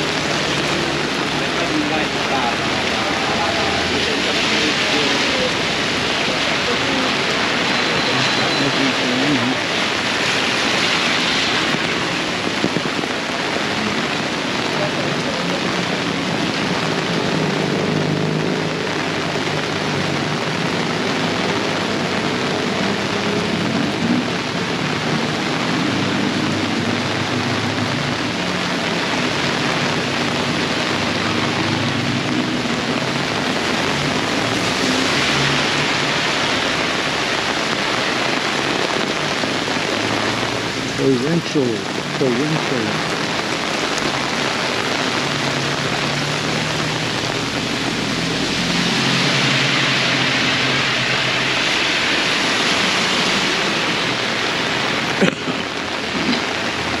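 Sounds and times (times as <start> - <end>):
torrential rain splashing: 0.0 - 57.0.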